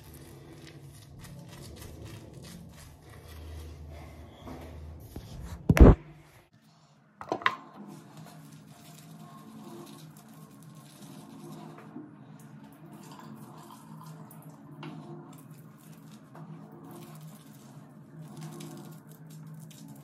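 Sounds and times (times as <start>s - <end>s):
cleansing brush scrubbing skin: 0.0s - 5.4s, 7.8s - 20.0s.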